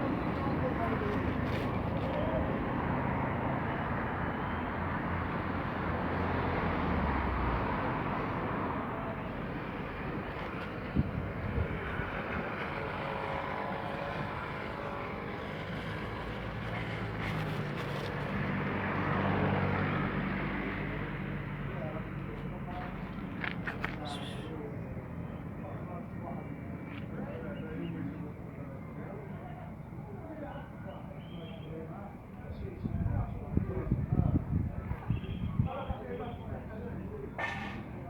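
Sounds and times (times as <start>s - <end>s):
traffic engine and road noise: 0.0s - 38.0s.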